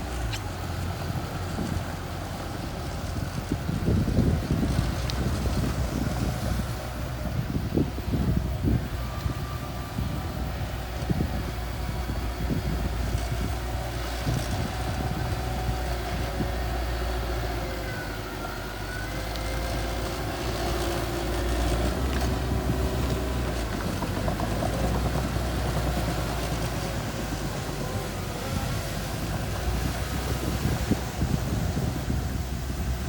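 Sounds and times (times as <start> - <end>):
bulldozer engine rumbling: 0.0 - 33.0.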